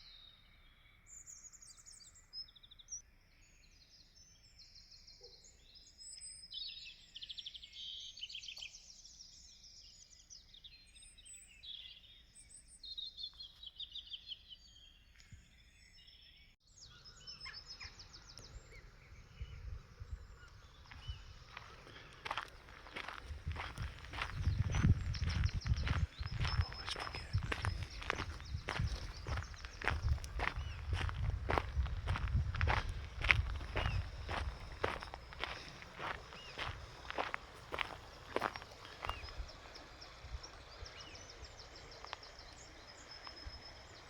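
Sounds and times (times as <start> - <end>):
songbirds trilling and chirping: 0.0 - 44.0.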